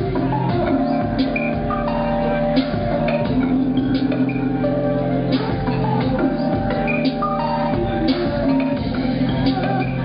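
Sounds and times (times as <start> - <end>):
electronic music: 0.0 - 10.0.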